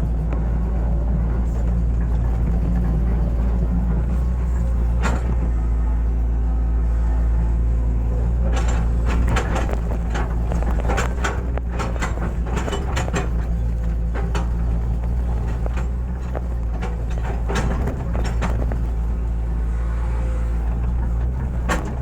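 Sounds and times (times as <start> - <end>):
excavator diesel engine running: 0.0 - 22.0
excavator digging knocks and scrapes: 0.0 - 22.0.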